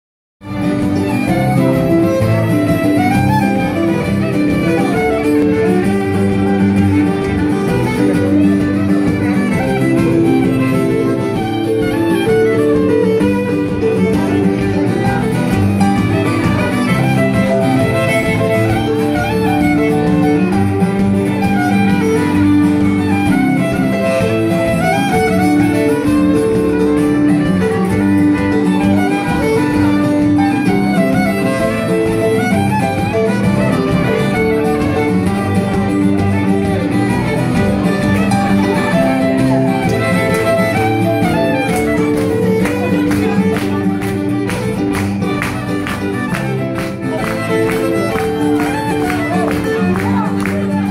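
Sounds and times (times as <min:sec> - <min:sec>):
acoustic guitar strumming chords: 0:00.4 - 0:50.9
lively fiddle tune: 0:00.4 - 0:50.9.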